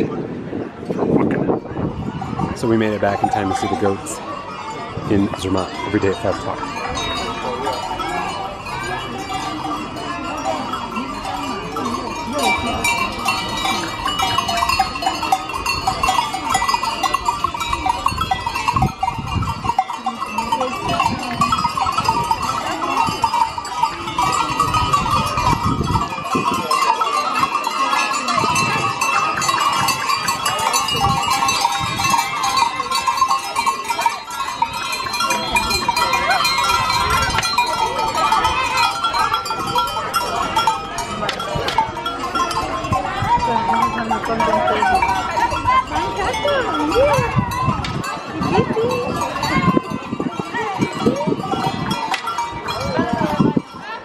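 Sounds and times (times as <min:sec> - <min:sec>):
crowd chatter: 0:00.0 - 0:54.0
goat bells jangling: 0:00.8 - 0:54.0.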